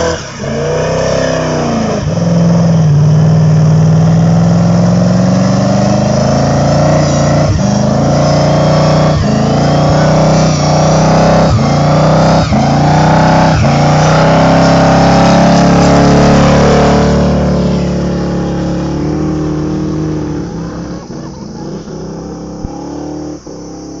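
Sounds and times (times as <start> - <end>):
engine revving in burnout: 0.0 - 24.0.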